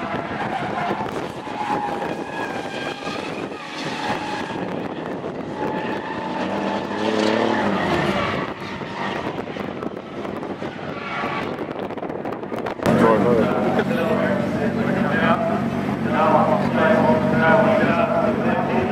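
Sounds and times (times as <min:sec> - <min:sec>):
race car engines revving: 0:00.0 - 0:18.9
tyre and road noise: 0:00.0 - 0:18.9.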